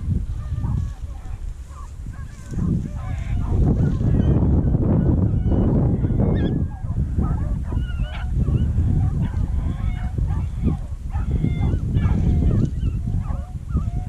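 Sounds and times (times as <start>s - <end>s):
beagles baying: 0.2s - 14.0s.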